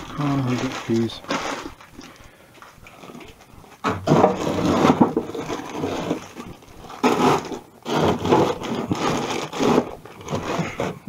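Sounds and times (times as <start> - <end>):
frozen vegetables rattling in plastic bags: 0.0 - 2.2, 4.0 - 11.0.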